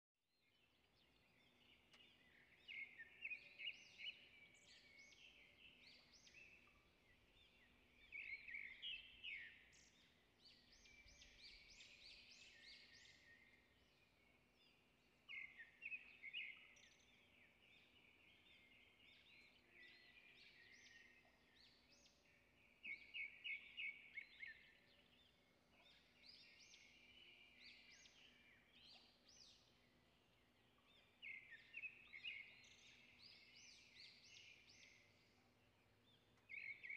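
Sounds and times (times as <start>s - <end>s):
songbird chirping: 0.4s - 36.9s.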